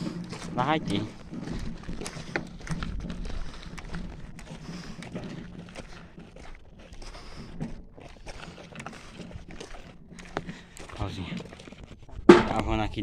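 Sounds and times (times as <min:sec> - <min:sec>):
footsteps through dry brush: 0:00.0 - 0:12.6
rustles and snaps underfoot: 0:00.0 - 0:13.0.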